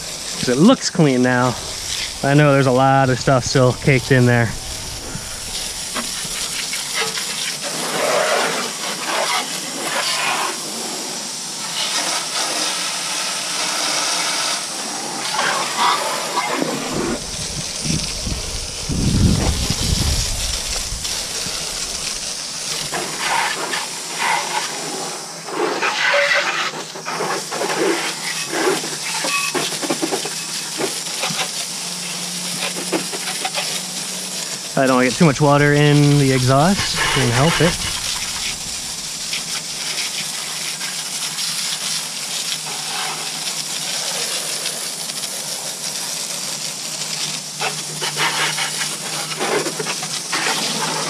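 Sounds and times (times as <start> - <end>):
hose spray splattering on vehicle: 0.0 - 51.0.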